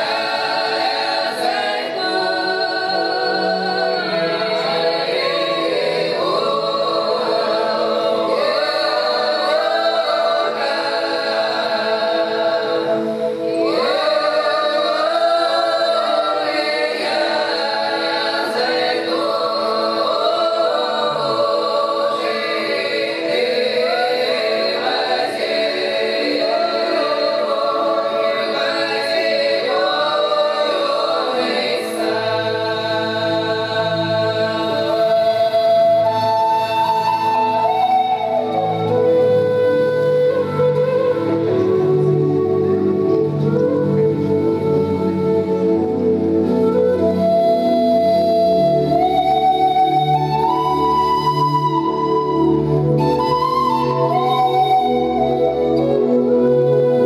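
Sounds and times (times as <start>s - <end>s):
women's choir singing folk song: 0.0s - 56.4s.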